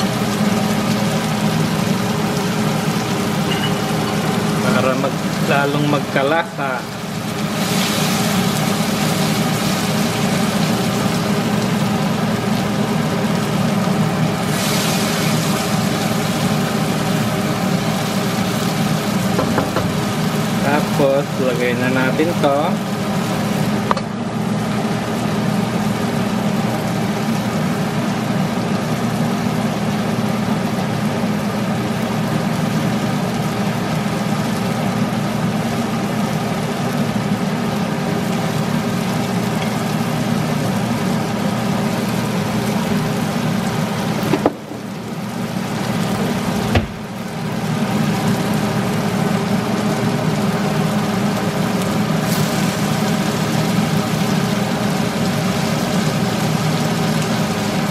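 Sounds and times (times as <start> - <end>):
loud mechanical hum: 0.0 - 57.9
pork sizzling in a wok: 0.0 - 57.9.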